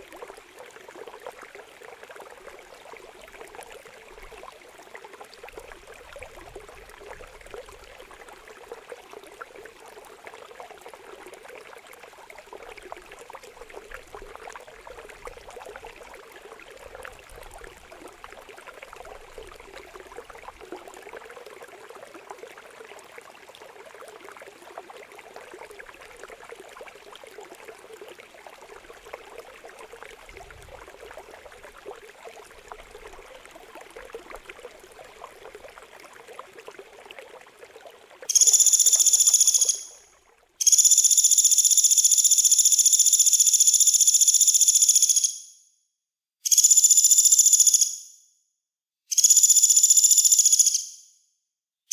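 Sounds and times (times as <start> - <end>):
water trickling and gurgling: 0.0 - 43.0.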